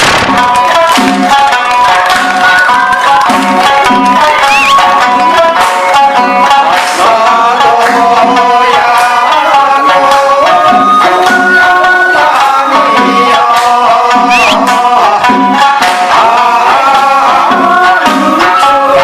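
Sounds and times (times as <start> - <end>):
instrumental music with drum beat: 0.0 - 19.0.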